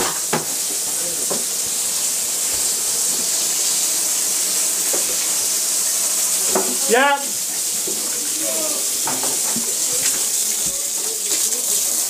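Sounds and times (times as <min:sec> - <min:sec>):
water running from pipe: 0:00.0 - 0:12.0.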